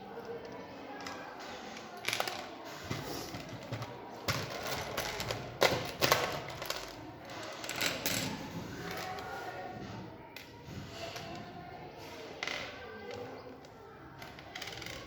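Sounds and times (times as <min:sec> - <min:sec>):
plastic parts clicking and knocking: 0:00.2 - 0:11.6, 0:12.4 - 0:15.0.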